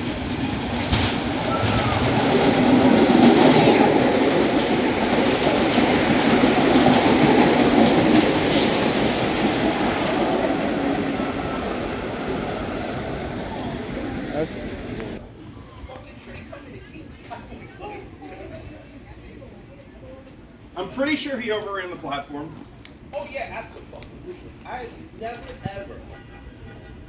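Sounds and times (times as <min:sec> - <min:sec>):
subway train rumbling: 0:00.0 - 0:27.0.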